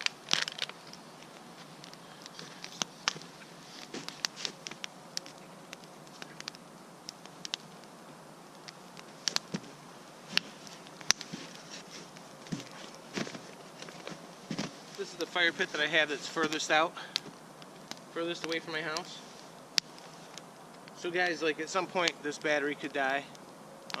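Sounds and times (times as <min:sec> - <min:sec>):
campfire crackling: 0:00.0 - 0:24.0
faint steady hiss: 0:00.0 - 0:24.0.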